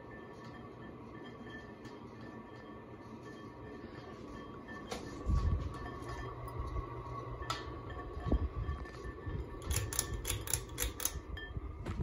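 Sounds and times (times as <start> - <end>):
thin steady tone: 0.0 - 11.8
ceiling fan motor hum: 0.0 - 12.0.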